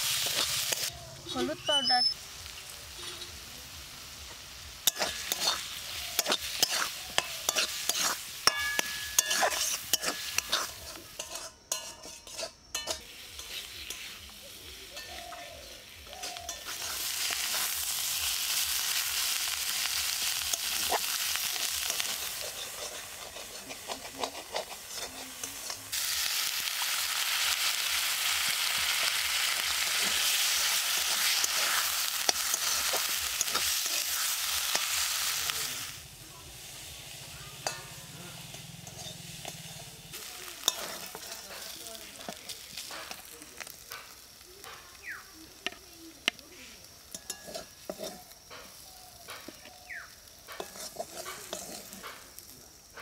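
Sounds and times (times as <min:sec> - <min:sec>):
metal spatula scraping wok: 0:00.0 - 0:02.1, 0:02.9 - 0:03.5, 0:04.3 - 0:44.9, 0:46.3 - 0:49.7, 0:50.3 - 0:53.0
food sizzling in oil: 0:00.0 - 0:53.0.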